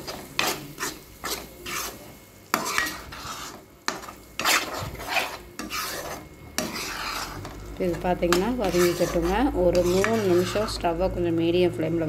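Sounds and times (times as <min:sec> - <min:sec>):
paste sizzling in oil: 0:00.0 - 0:11.0
spoon scraping pan: 0:00.0 - 0:11.0.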